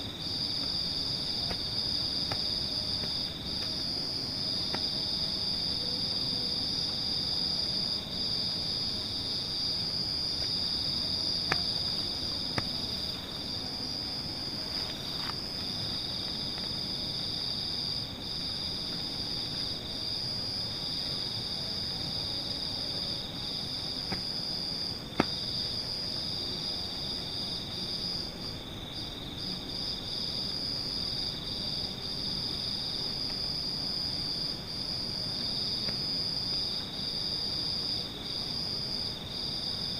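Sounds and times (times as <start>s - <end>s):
background hiss: 0.0s - 39.9s
crickets chirring: 0.0s - 39.9s.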